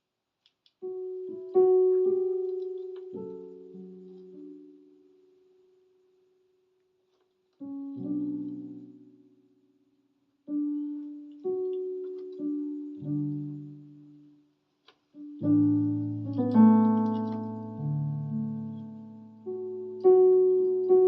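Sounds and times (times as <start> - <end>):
slow electric keyboard piano: 0.8 - 21.0.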